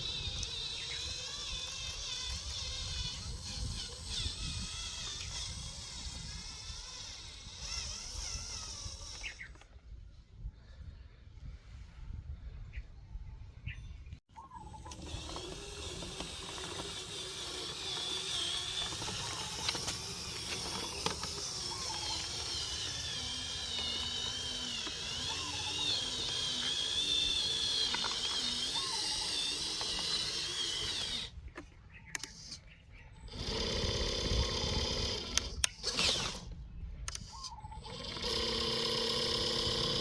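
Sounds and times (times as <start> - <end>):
small electric motor whining: 0.0 - 9.7, 14.4 - 40.0.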